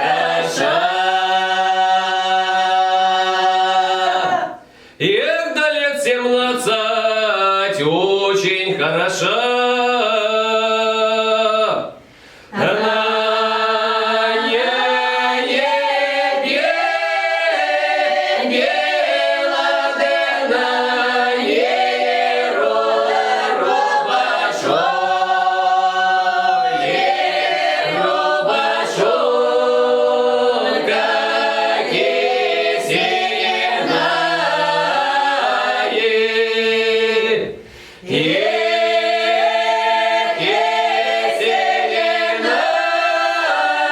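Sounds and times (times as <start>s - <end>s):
folk ensemble singing a cappella: 0.0s - 43.9s.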